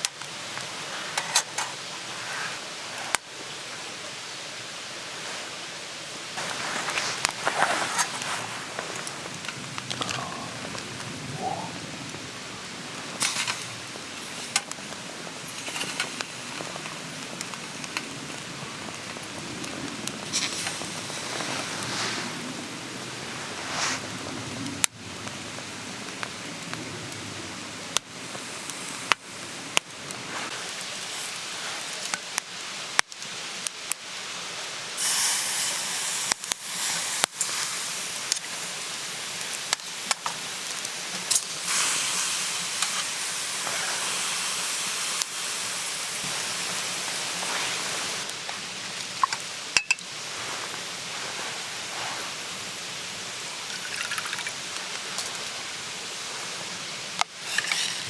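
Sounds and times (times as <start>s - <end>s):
steady hiss: 0.0s - 58.0s
wood fire crackling: 0.0s - 58.0s.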